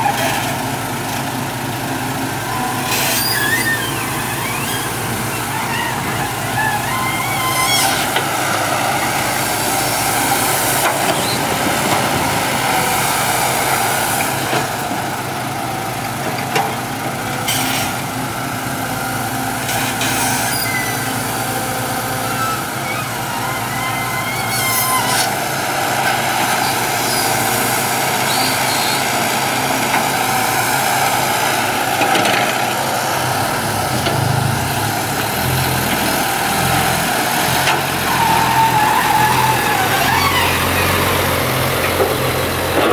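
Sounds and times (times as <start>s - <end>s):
excavator diesel engine: 0.0s - 42.9s
truck engine idling: 0.0s - 42.9s.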